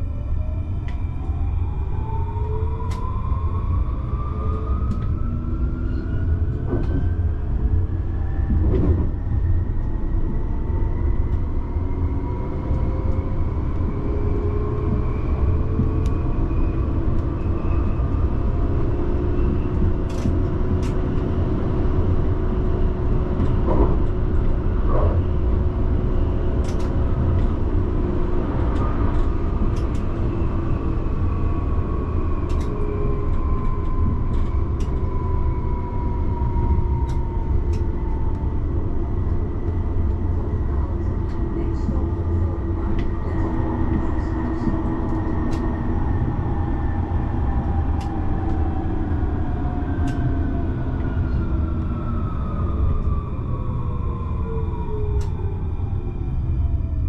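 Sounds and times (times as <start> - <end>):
tram wheels rumbling on rails: 0.0 - 57.0.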